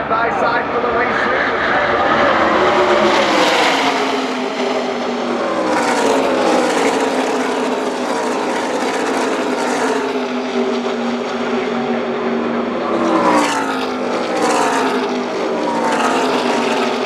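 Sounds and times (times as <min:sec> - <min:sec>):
race trucks passing at speed: 0:00.0 - 0:17.0.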